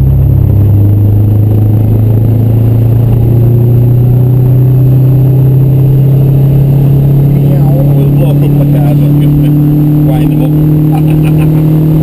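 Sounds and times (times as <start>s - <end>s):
car engine running loud: 0.0s - 12.0s.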